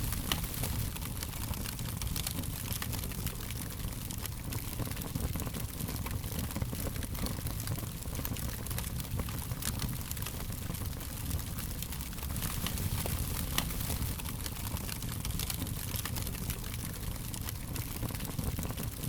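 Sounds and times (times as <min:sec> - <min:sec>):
fire crackling and popping: 0:00.0 - 0:19.0
low fire rumble: 0:00.0 - 0:19.0.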